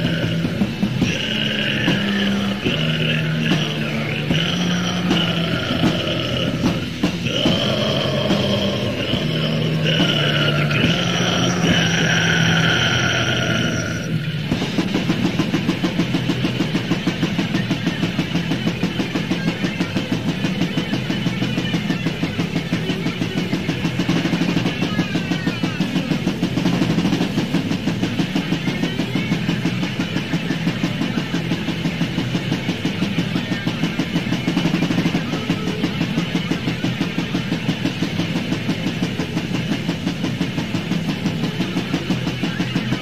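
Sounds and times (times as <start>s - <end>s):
distorted metal guitars: 0.0s - 43.0s
fast drumming: 0.0s - 43.0s.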